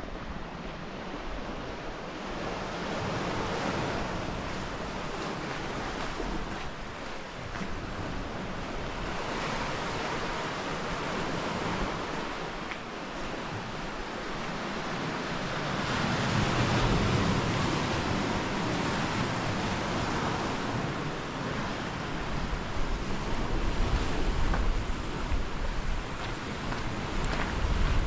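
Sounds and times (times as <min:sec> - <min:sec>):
sea waves washing on shore: 0:00.0 - 0:28.0
wind buffeting microphone: 0:00.0 - 0:28.0.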